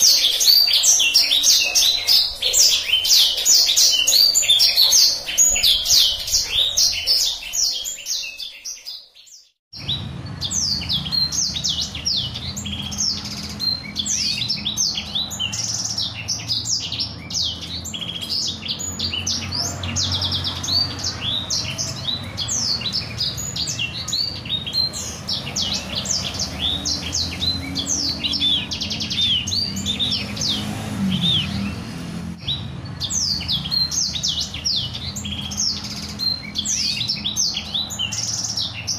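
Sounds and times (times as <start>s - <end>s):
songbird singing chirps and trills: 0.0s - 38.9s.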